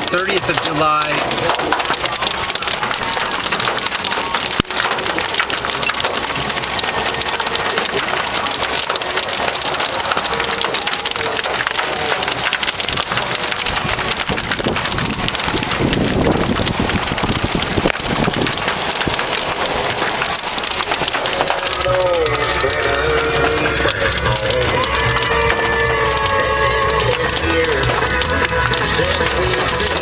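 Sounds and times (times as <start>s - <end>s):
hail clattering on hard surface: 0.0s - 30.0s
rain: 0.0s - 30.0s
sharp crack: 0.0s - 30.0s.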